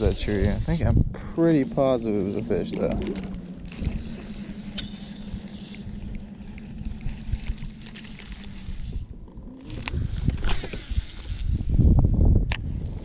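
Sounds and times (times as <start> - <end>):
electric motor humming: 0.0 - 12.0
water and wind rumble: 0.0 - 13.0.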